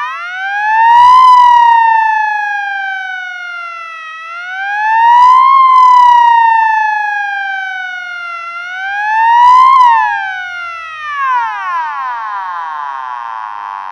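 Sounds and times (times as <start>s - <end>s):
ambulance siren wailing: 0.0s - 13.9s.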